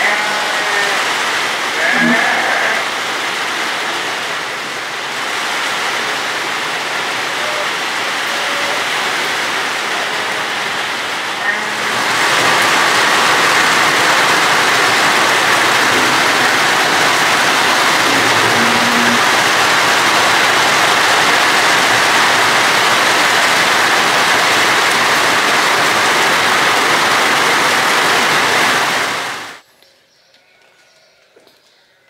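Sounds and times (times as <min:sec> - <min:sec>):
heavy rain falling: 0:00.0 - 0:29.6.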